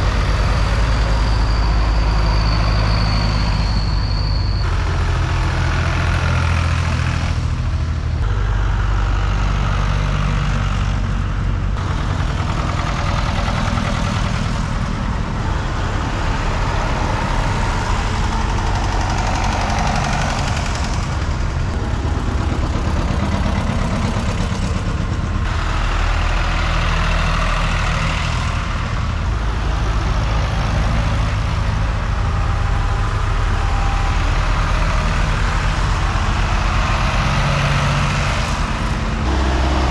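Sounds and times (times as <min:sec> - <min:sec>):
tractors driving past: 0:00.0 - 0:39.9.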